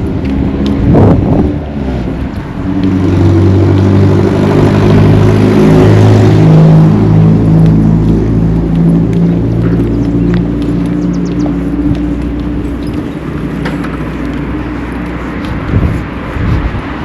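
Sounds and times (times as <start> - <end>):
vehicle engine running: 0.0 - 17.0
wind buffeting microphone: 0.0 - 17.0.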